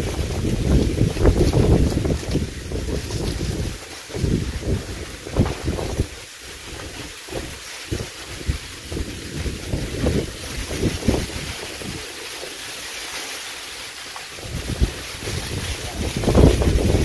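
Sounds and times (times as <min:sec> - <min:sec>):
wind buffeting microphone: 0:00.0 - 0:12.2, 0:14.4 - 0:17.0
steady hiss: 0:00.0 - 0:17.0.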